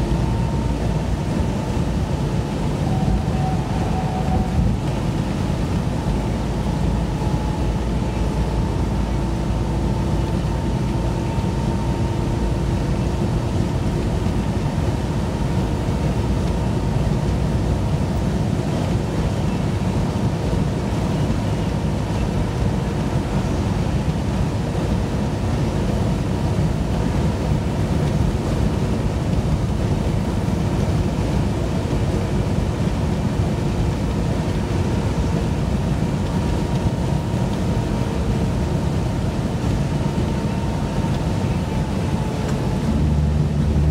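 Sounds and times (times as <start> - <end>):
faint steady hum: 0.0 - 43.9
road and engine noise in car: 0.0 - 43.9.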